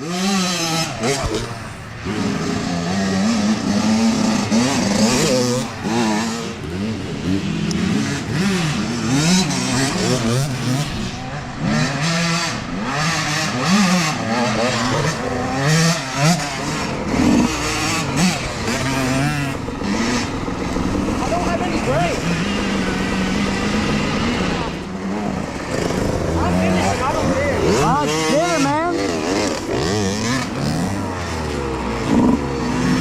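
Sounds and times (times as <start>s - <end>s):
dirt bike engines revving: 0.0s - 33.0s.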